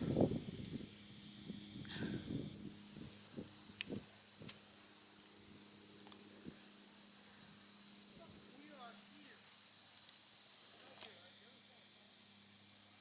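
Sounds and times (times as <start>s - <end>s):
low steady hum: 0.0s - 12.0s
insects chirring: 0.0s - 13.0s.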